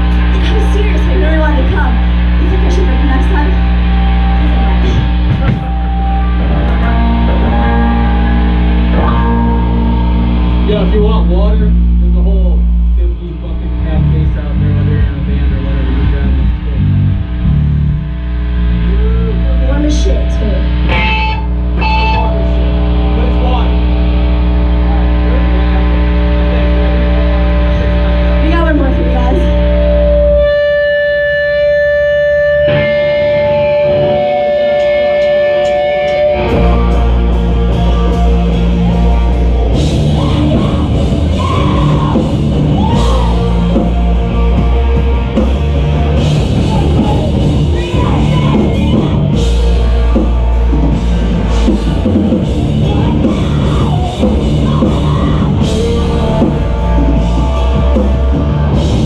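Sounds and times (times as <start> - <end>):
distorted electric guitars: 0.0 - 59.0
drum kit: 0.0 - 59.0
live rock band playing: 0.0 - 59.0.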